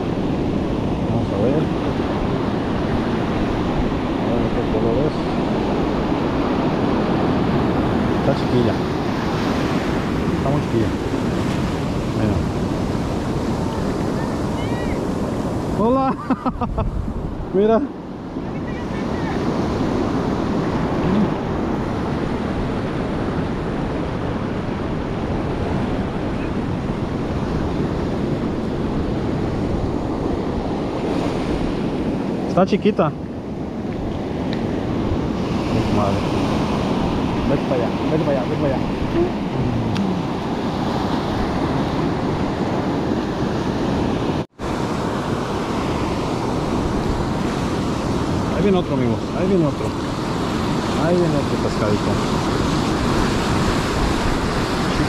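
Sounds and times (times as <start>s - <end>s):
ocean surf washing up a beach: 0.0s - 55.0s
wind rumbling on microphone: 0.0s - 55.0s.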